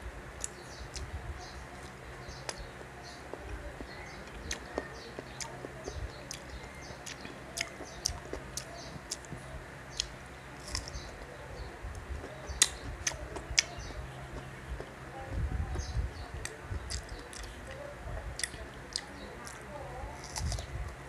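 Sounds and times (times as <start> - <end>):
faint low hum: 0.0 - 21.0
mango slices crunching when chewed: 0.4 - 15.0, 16.4 - 21.0.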